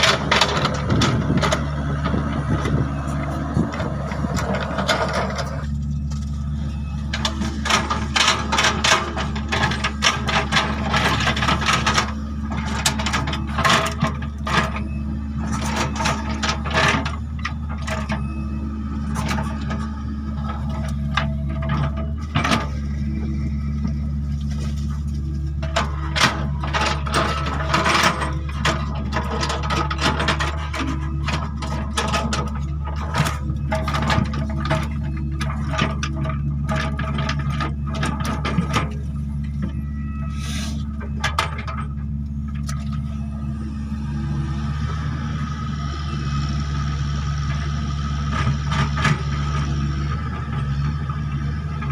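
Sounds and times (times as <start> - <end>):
diesel engine running: 0.0 - 51.9
excavator clanks and knocks: 0.0 - 51.9.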